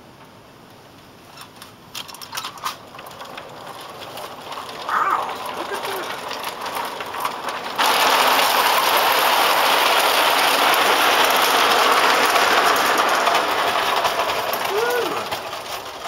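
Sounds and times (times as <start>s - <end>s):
clockwork toy train rattling whirr: 1.2s - 16.0s.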